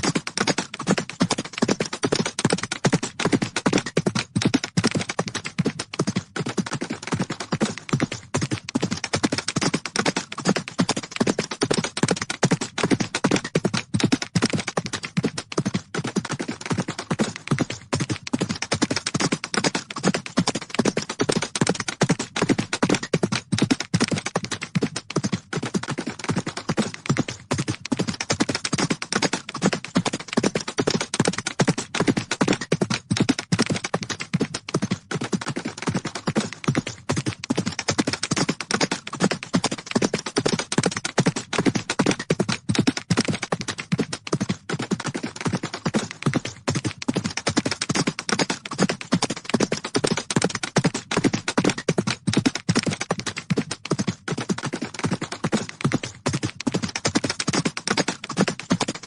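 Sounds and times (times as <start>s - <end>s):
horses galloping: 0.0s - 59.0s.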